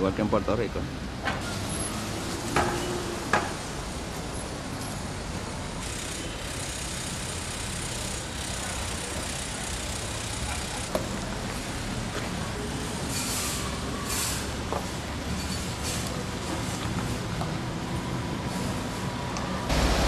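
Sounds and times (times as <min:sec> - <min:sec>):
city street traffic rumble: 0:00.0 - 0:20.0.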